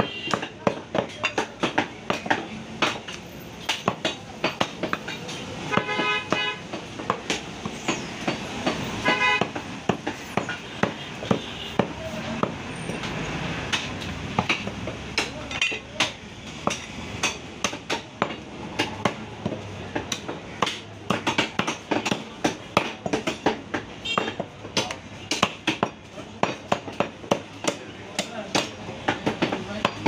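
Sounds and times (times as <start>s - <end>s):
blade chopping on wooden block: 0.0s - 12.6s, 13.7s - 30.0s.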